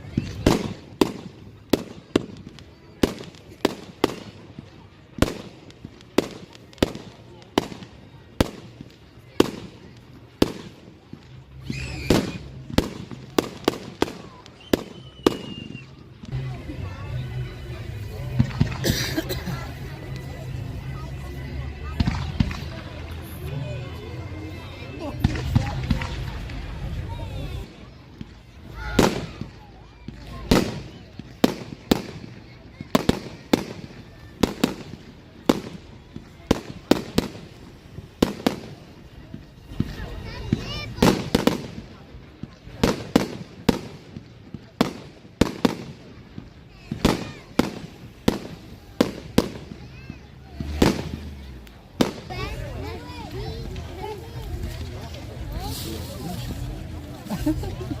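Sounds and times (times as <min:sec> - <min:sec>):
fireworks bangs: 0:00.0 - 0:16.3, 0:21.8 - 0:23.4, 0:25.1 - 0:58.0.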